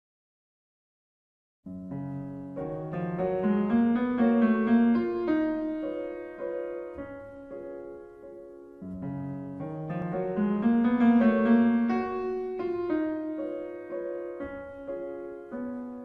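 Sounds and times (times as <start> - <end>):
gentle piano music: 1.7 - 16.0.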